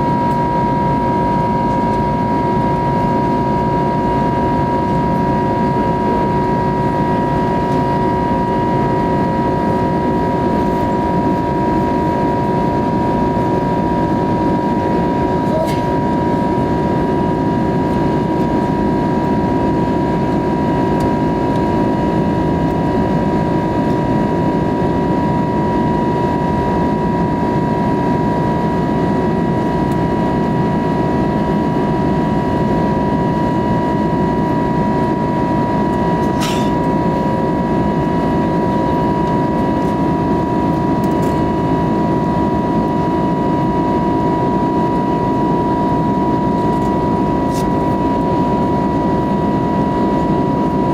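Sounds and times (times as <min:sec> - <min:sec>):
cabin engine and airflow rush: 0:00.0 - 0:50.9
high turbofan whine: 0:00.0 - 0:50.9.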